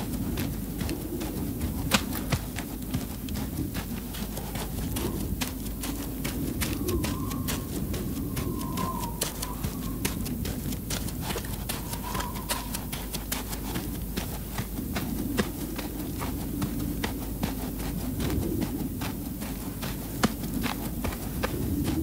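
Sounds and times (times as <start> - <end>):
footsteps on muddy track: 0.0 - 22.0
low rumble: 0.0 - 22.0.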